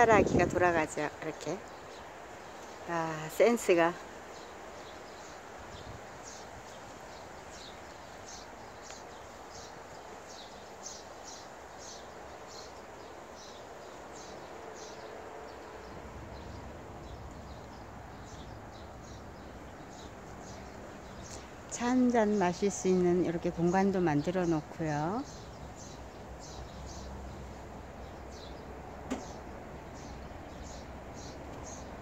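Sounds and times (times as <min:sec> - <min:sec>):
outdoor background hiss: 0:00.0 - 0:32.0.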